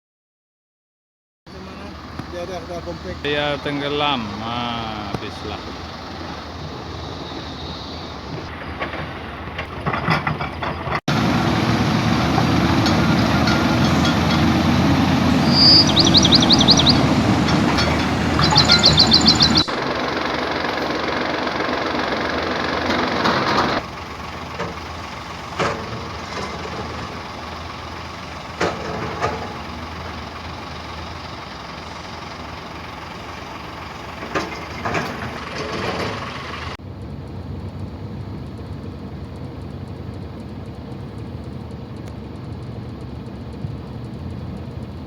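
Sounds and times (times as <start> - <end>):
vehicle engine and road noise: 1.5 - 45.0.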